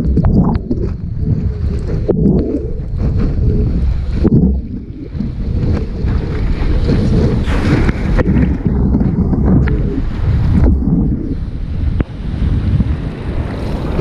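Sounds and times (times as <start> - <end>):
sea water and surf: 0.0 - 14.0
wind buffeting microphone: 0.0 - 14.0.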